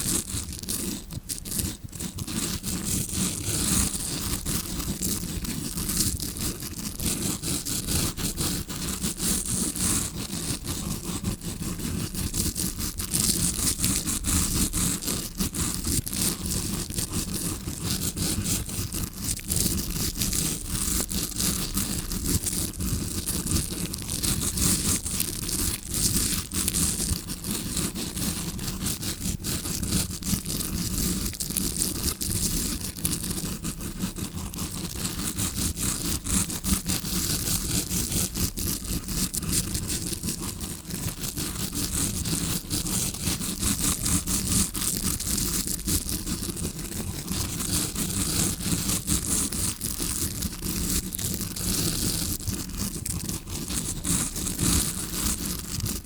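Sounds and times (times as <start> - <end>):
brush scratching on microphone: 0.0 - 56.0.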